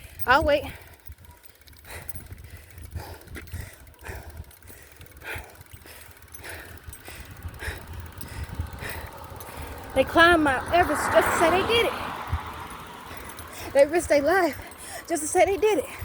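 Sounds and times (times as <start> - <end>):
wind rumble on microphone: 0.0 - 5.4, 6.4 - 14.6
soft rhythmic pedalling sound: 0.0 - 16.0.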